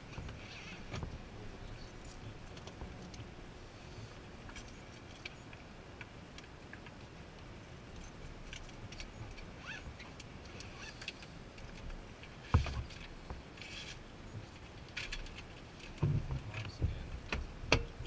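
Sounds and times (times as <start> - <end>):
small clicks and rustles: 0.0 - 3.4, 4.1 - 18.0.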